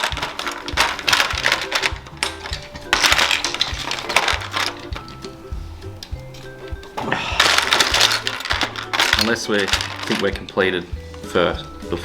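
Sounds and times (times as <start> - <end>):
background music with bass line: 0.0 - 12.0
plastic bricks clattering: 0.0 - 12.0.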